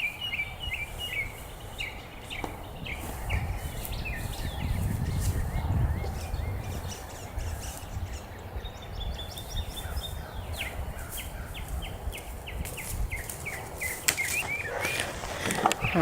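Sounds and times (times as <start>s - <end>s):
birds chirping: 0.0s - 16.0s
wind rumble on microphone: 0.0s - 16.0s.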